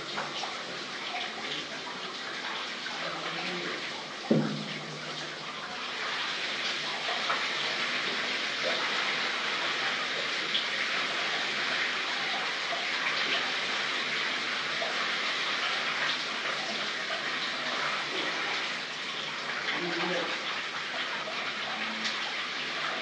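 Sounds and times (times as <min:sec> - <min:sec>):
shower water running: 0:00.0 - 0:23.0.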